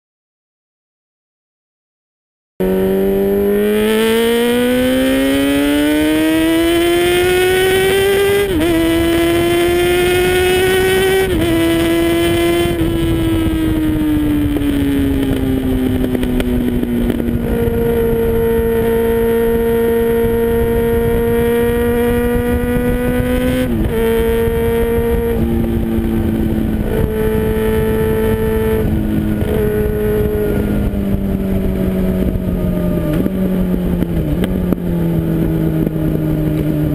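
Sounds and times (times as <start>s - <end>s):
motorcycle engine revving: 2.6s - 36.9s.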